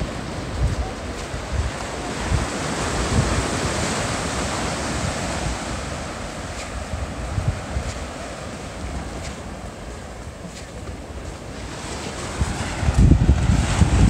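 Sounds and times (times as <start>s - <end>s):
surf washing up a beach: 0.0s - 14.0s
wind buffeting microphone: 0.0s - 14.0s.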